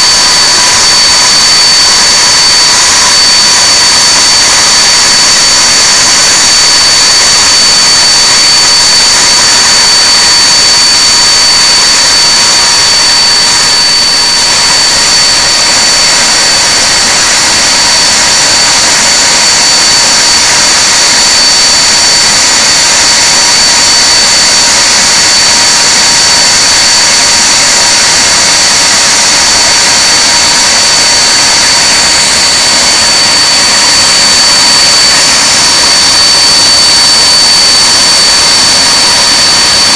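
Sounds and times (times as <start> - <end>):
high-pitched engine whine: 0.0 - 39.9
jet engines running: 0.0 - 39.9.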